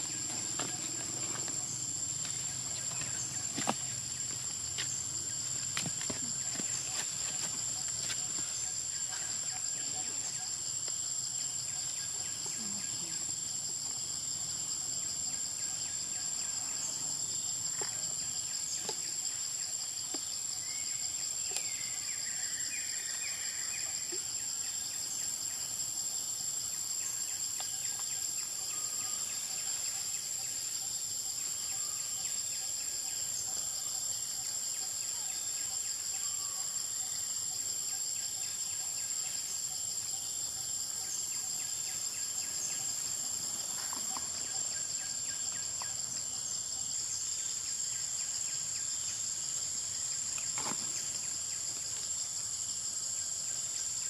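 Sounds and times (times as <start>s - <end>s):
insects buzzing chorus: 0.0s - 54.0s.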